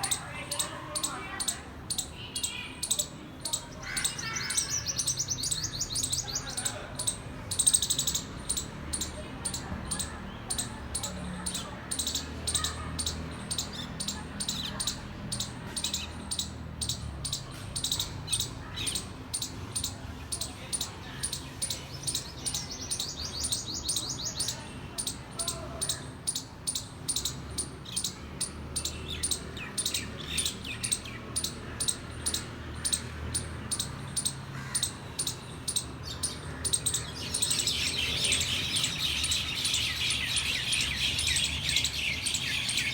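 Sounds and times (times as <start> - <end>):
busy twittering: 0.0 - 42.9
squirrel chirping: 0.0 - 42.9.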